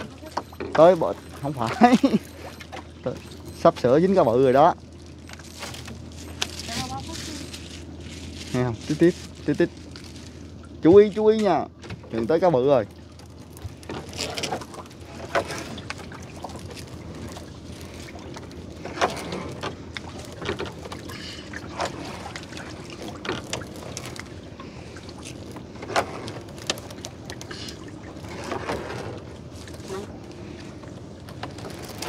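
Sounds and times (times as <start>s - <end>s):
net hauled over boat side: 0.0s - 32.0s
water splashing and streaming: 0.0s - 32.0s.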